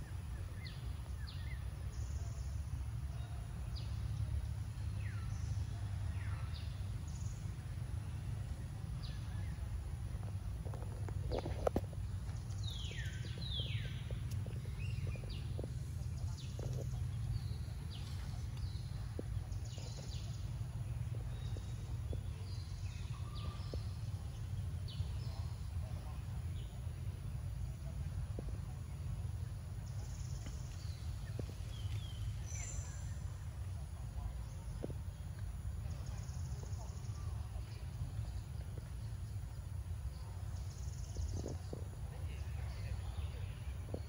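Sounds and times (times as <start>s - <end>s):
low rumble: 3.8s - 44.0s.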